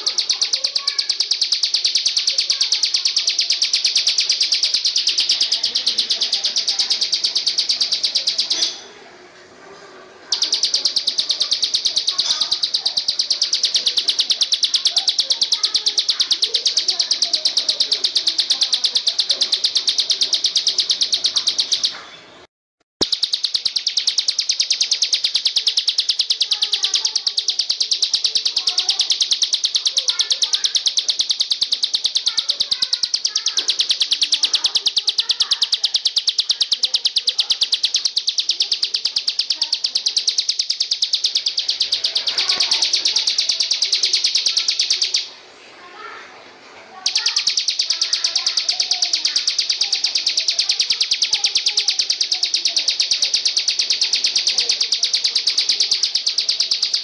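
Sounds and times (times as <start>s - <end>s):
insect trilling: 0.0s - 8.7s, 10.3s - 21.9s, 23.0s - 45.3s, 47.0s - 57.0s.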